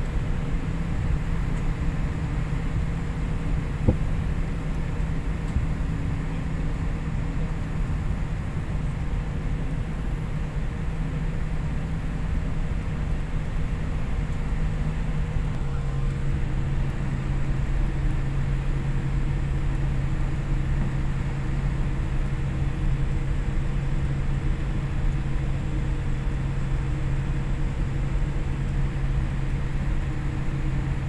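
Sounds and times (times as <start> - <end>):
airliner cabin rushing hum: 0.0 - 31.0
deep engine drone: 0.0 - 31.0.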